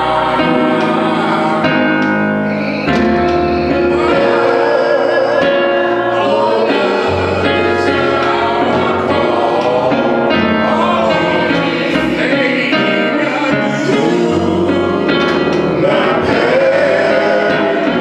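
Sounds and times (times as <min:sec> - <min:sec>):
choir singing gospel: 0:00.0 - 0:18.0
instrumental accompaniment: 0:00.0 - 0:18.0.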